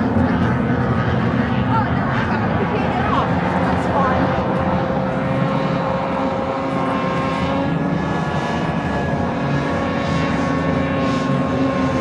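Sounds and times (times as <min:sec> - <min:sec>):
racing boat engines droning: 0:00.0 - 0:12.0.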